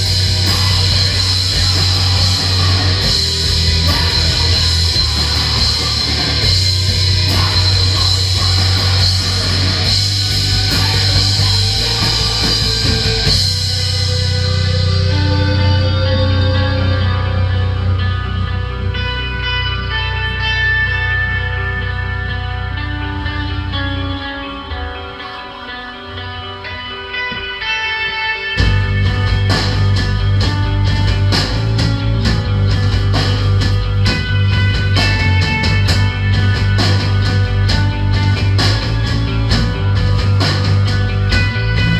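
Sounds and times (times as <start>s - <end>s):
bass guitar: 0.0s - 41.9s
distorted electric guitars: 0.0s - 41.9s
rock drums: 0.0s - 41.9s.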